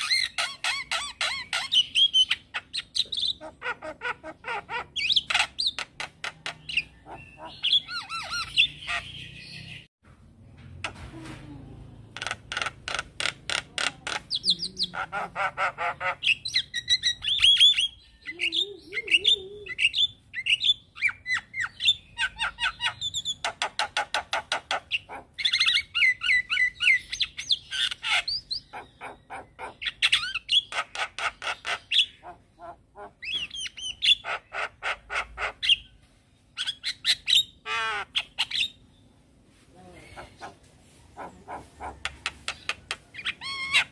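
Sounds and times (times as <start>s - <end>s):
bird chattering song: 0.0s - 9.9s, 12.1s - 39.2s, 39.9s - 43.9s.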